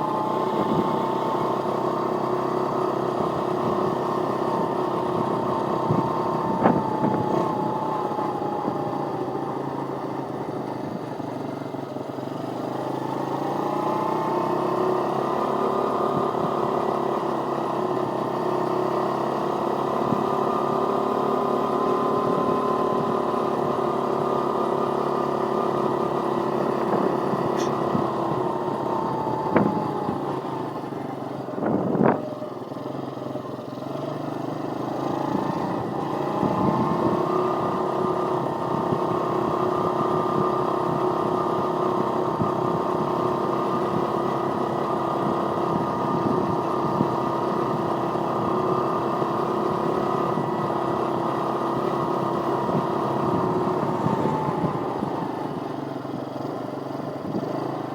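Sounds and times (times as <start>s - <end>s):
pit bike engine running: 0.0s - 57.9s.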